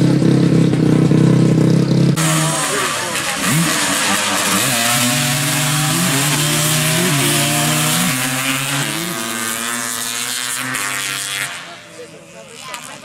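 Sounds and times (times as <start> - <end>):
atv engines revving and shifting: 0.0 - 13.0.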